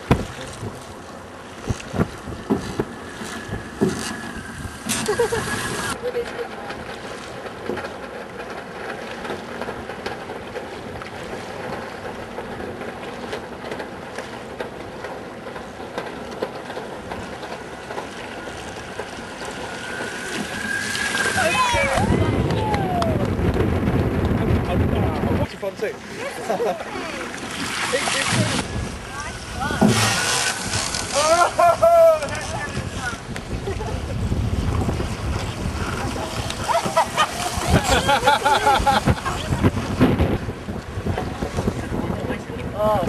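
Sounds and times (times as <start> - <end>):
water around a boat: 0.0 - 43.0
wind: 0.0 - 43.0.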